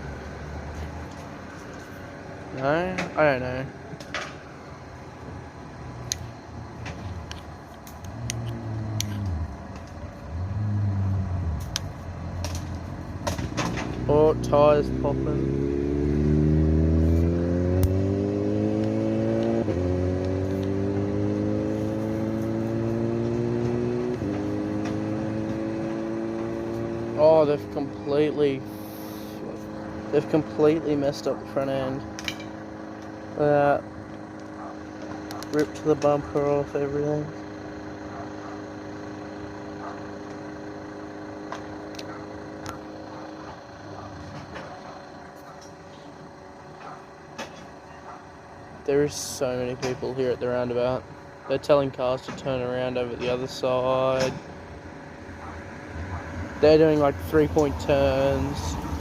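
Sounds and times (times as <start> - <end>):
vehicle engine under load: 0.0 - 59.0.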